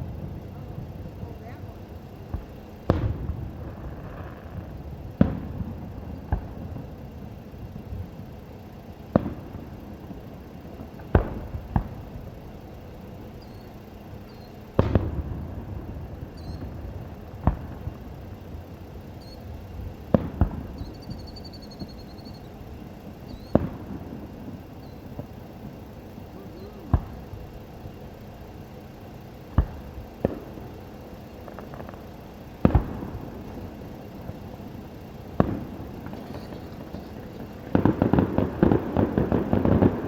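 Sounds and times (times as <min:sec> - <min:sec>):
fireworks shells bursting: 0:00.0 - 0:40.0.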